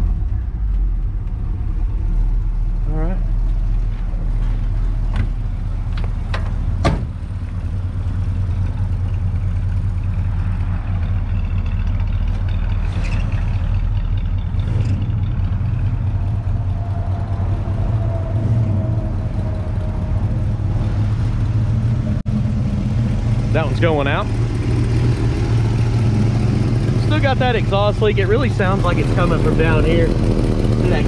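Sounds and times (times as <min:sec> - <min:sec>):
engine idling with exhaust leak: 0:00.0 - 0:31.0.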